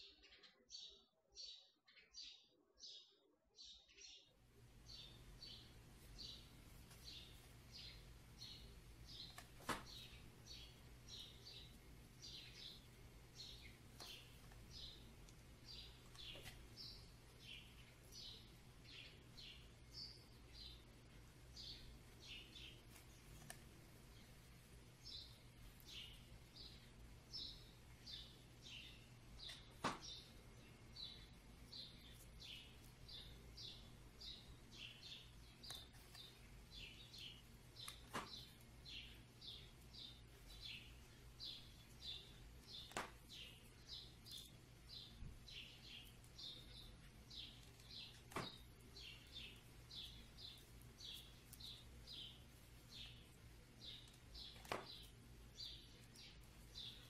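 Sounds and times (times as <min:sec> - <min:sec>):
small bird chirping: 0:00.0 - 0:57.0.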